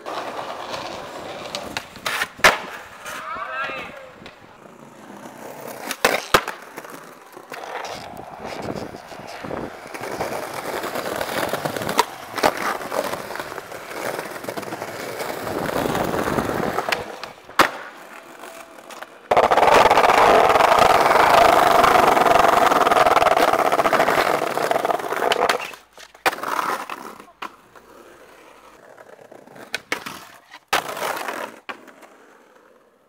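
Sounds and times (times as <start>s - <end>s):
skateboard wheels rolling on pavement: 0.0s - 33.0s
skateboard trick pops and clacks: 0.1s - 3.2s, 4.2s - 4.5s, 5.8s - 27.7s, 29.5s - 32.1s.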